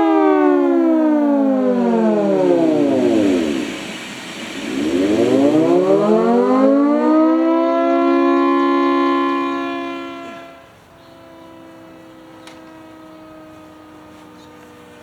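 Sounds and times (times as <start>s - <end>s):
mechanical siren wailing: 0.0s - 14.9s.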